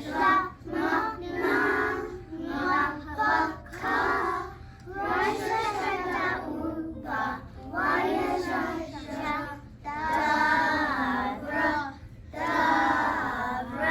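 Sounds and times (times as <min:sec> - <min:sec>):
child singing: 0:00.0 - 0:13.9.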